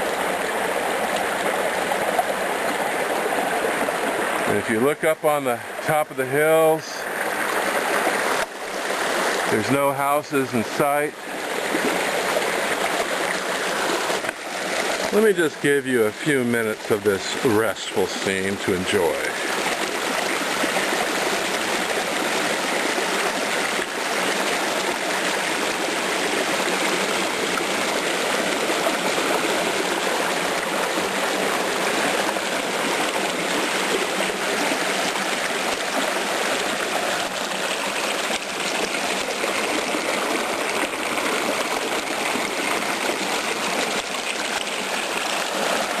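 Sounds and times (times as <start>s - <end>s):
creek rushing and splashing: 0.0s - 46.0s.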